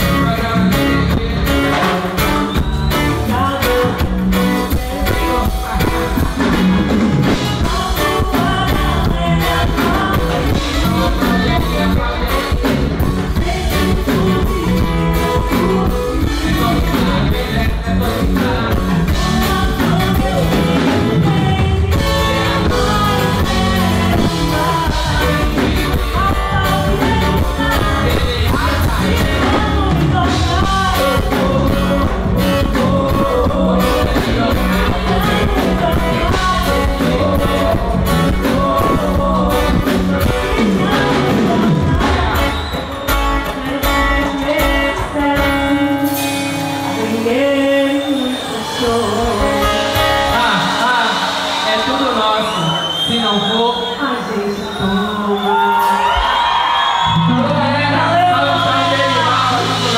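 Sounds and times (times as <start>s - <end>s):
guitar accompaniment: 0.0s - 59.9s
person singing into microphone: 0.0s - 59.9s.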